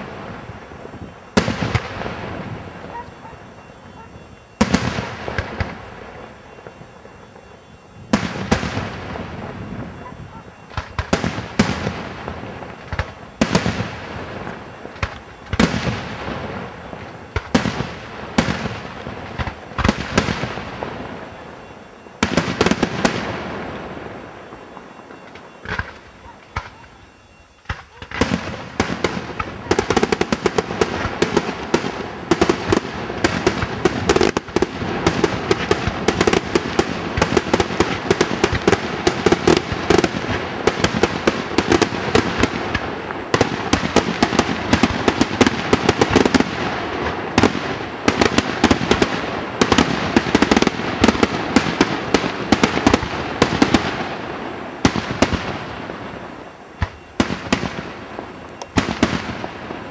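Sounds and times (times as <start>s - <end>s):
fireworks bursts and crackling: 0.0s - 59.9s.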